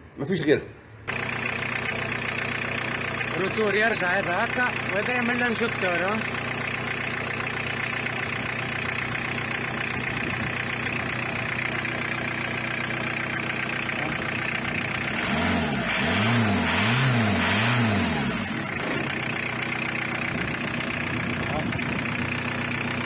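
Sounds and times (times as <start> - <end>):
car engine idling and revving: 1.0 - 23.0.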